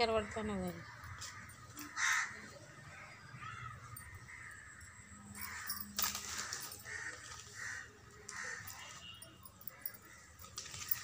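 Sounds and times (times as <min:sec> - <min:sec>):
crows cawing: 0:00.2 - 0:08.9, 0:09.7 - 0:10.8.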